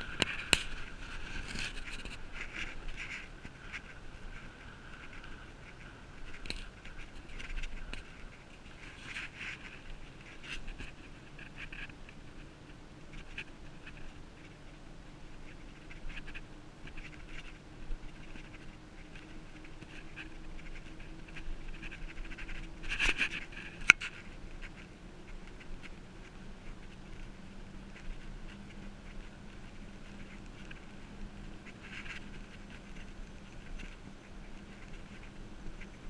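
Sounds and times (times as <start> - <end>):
bike clicks and rattles: 0.0 - 12.2, 15.4 - 36.0
bicycle tyres humming on road: 0.0 - 36.0.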